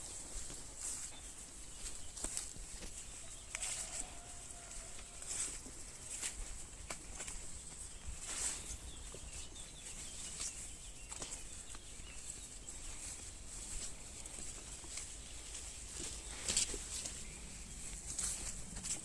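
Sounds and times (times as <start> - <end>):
bare feet on forest floor: 0.0 - 19.0.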